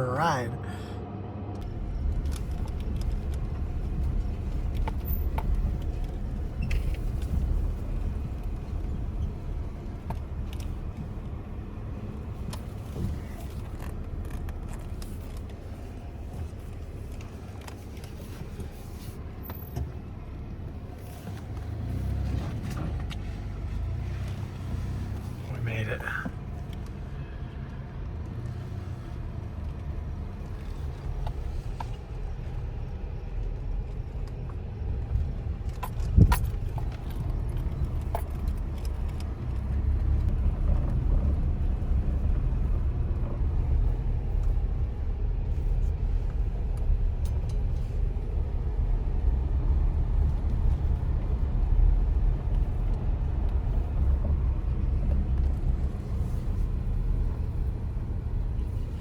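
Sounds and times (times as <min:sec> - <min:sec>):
vehicle driving with low rumble: 0:00.0 - 0:59.0.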